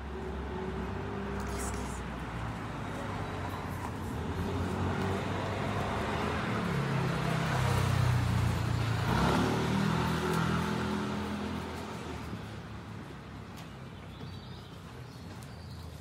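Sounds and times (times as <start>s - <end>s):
vehicle passing on street: 0.0s - 13.8s.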